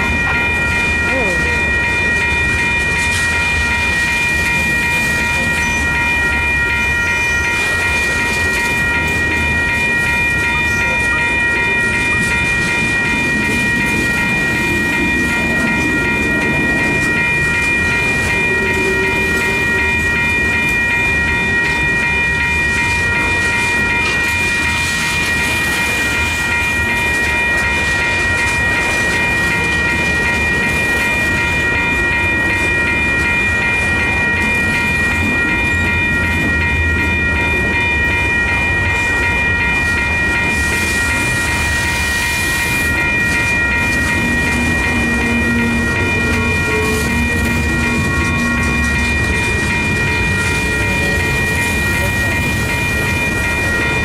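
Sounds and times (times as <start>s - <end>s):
high-pitched ringing squeal: 0.0s - 54.0s
rumble of train wheels: 0.0s - 54.0s.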